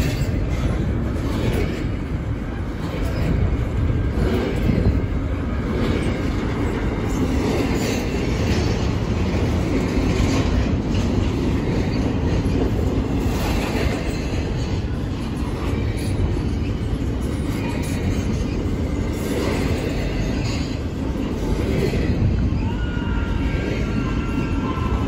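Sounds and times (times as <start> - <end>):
freight train wheels rumbling and clattering: 0.0 - 25.0.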